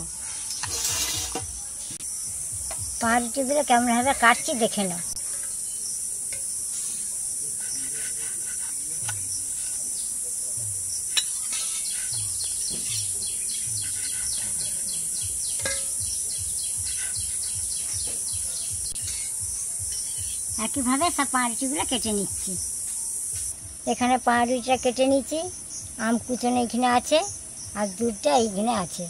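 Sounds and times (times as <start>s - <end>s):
steady high-pitched hiss: 0.0s - 29.0s.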